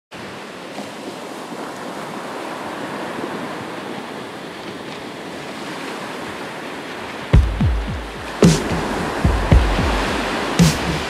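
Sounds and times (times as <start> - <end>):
waves breaking on beach: 0.1 - 11.0.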